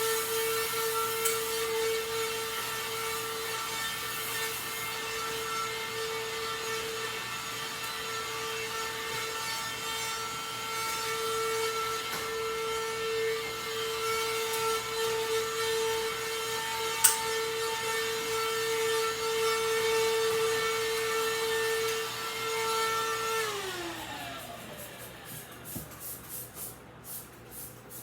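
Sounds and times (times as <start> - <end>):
portable vacuum cleaner whining: 0.0 - 26.0.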